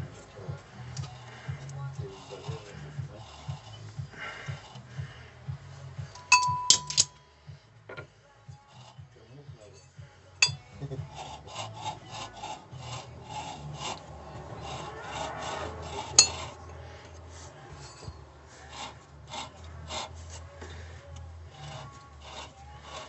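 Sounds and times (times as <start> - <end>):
scraping on metal brake parts: 0.0 - 23.0.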